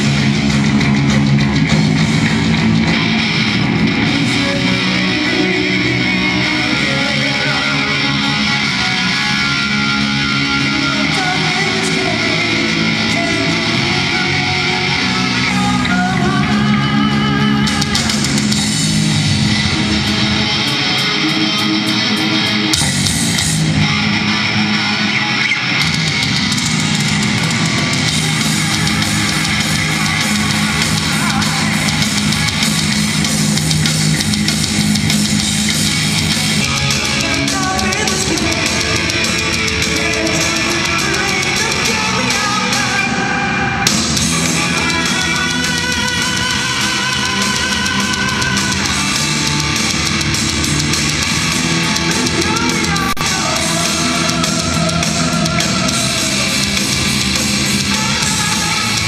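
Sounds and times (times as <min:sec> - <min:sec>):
drum kit: 0:00.0 - 0:59.0
electric guitars: 0:00.0 - 0:59.0
heavy metal band playing: 0:00.0 - 0:59.0.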